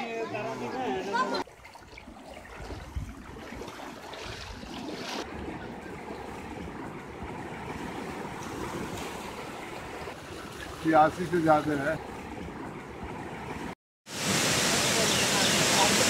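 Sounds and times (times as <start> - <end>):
floodwater rushing and churning: 0.6 - 16.0.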